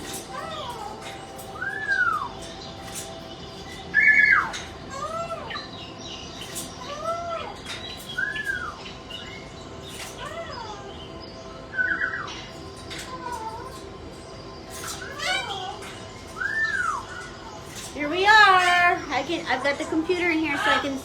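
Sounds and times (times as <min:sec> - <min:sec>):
parrots calling: 0:00.0 - 0:21.0.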